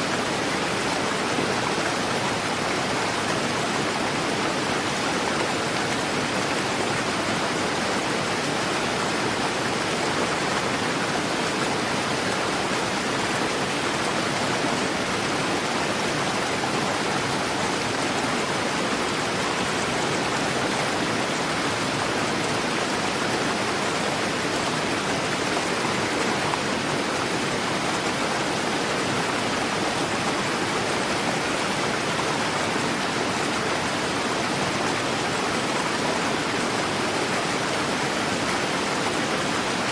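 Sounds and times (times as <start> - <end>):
fast-flowing river rushing: 0.0 - 39.9.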